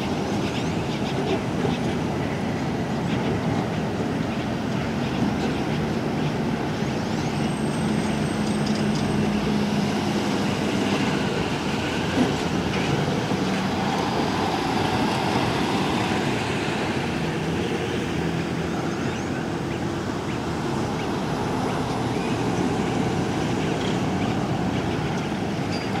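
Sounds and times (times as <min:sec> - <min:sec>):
fire truck engines running: 0:00.0 - 0:26.0
road and tyre noise: 0:00.0 - 0:26.0.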